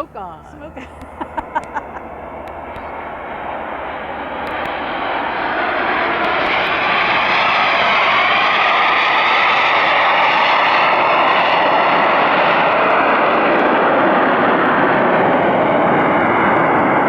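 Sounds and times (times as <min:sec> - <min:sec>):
jet aircraft engine rushing: 0:00.0 - 0:17.0.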